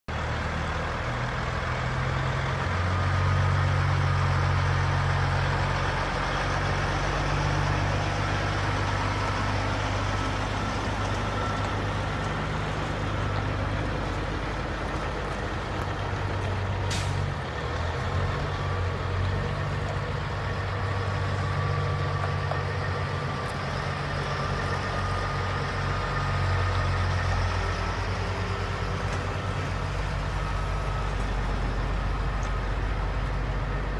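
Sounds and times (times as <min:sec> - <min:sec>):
diesel truck engine running: 0:00.1 - 0:33.9.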